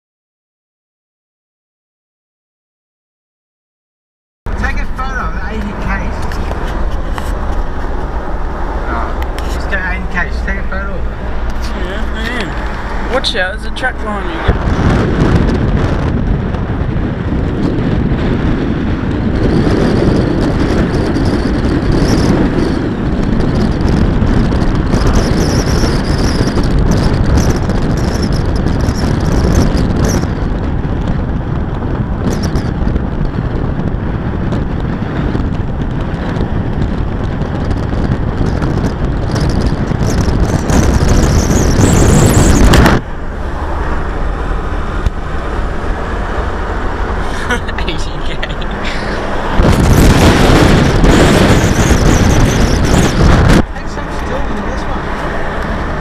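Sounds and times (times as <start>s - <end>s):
wind and road noise: 4.5s - 56.0s
engine hum inside car: 4.6s - 56.0s.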